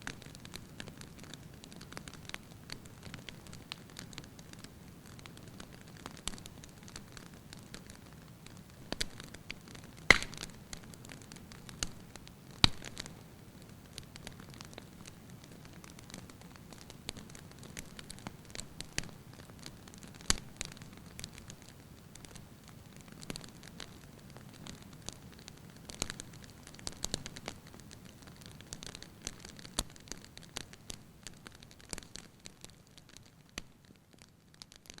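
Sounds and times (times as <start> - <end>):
low steady fire hiss: 0.0 - 35.0
wood fire crackling and popping: 0.0 - 35.0.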